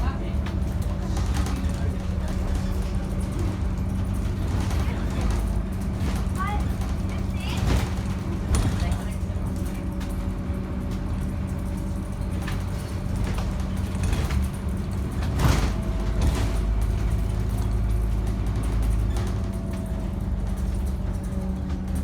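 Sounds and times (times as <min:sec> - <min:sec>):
bus body rattles and knocks: 0:00.0 - 0:22.0
bus diesel engine running: 0:00.0 - 0:22.0.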